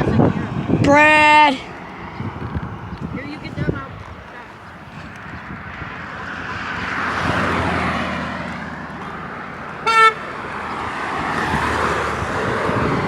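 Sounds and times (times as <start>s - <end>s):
vehicle passing: 1.4s - 13.0s.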